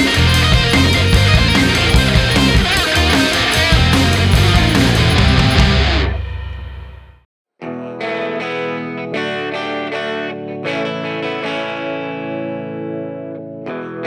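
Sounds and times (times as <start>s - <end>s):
guitar picking ringing notes: 0.0s - 13.1s.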